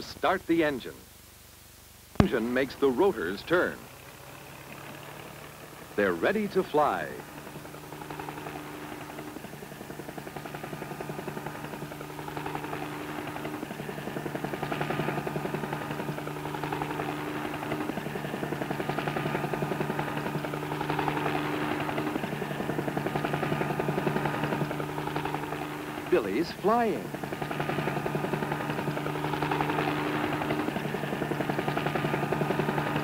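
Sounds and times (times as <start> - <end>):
helicopter engine and rotor: 2.2 - 33.0.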